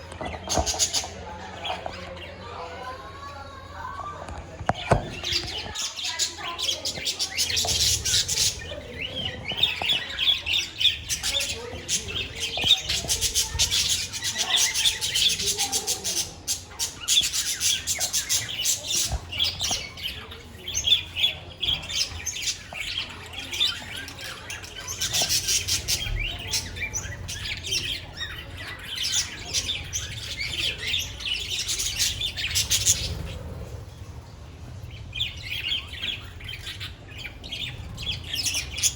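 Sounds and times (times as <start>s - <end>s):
budgerigars chirping and squawking: 0.0s - 2.6s, 4.7s - 38.9s.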